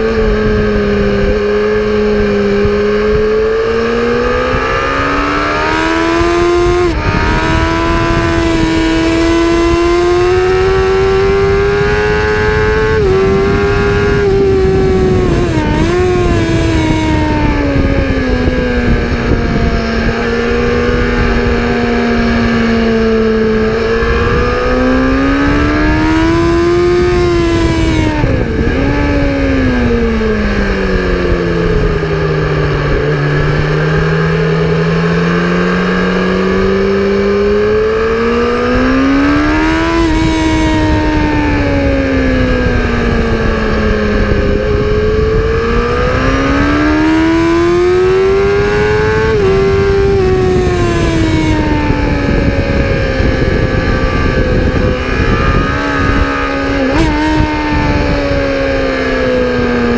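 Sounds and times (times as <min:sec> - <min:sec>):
race engine revving: 0:00.0 - 0:59.9
steady rushing noise: 0:00.0 - 0:59.9.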